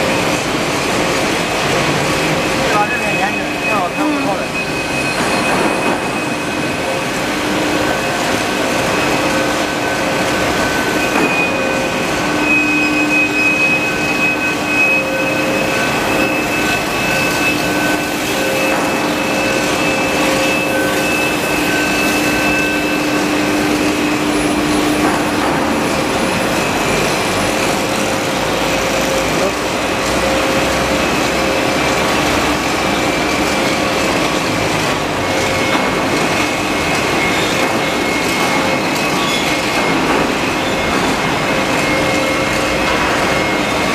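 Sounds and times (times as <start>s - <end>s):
steady machine drone: 0.0s - 43.9s.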